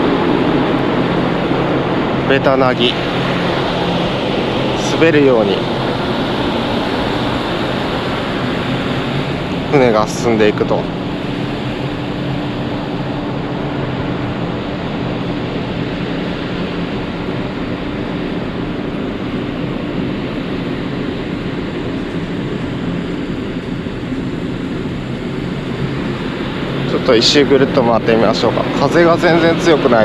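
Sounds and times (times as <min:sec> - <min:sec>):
rush of air and sea: 0:00.0 - 0:30.0
ship machinery drone: 0:00.0 - 0:30.0.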